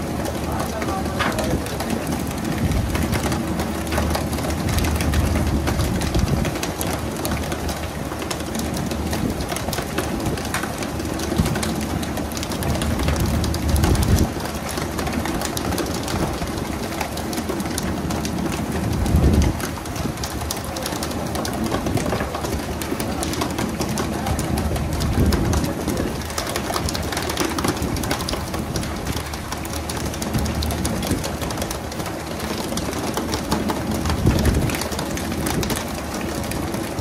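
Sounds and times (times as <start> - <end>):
low engine rumble: 0.0 - 37.0
water spraying and splashing: 0.0 - 37.0.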